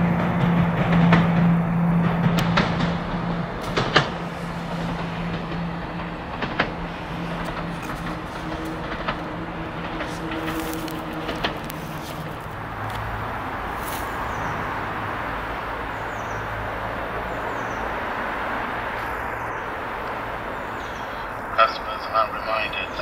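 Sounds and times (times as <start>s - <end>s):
diesel engine drone: 0.0s - 23.0s
train wheels rumbling on rail: 0.0s - 23.0s.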